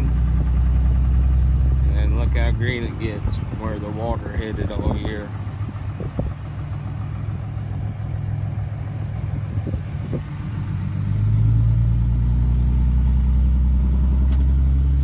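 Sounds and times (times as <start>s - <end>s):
pickup truck engine: 0.0s - 15.0s.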